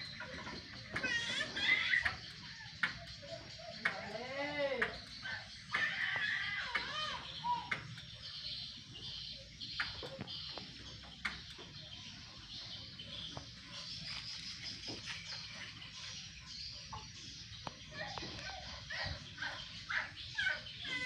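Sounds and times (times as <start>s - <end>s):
birds chirping: 0.0s - 21.0s
insects calling: 0.0s - 21.0s.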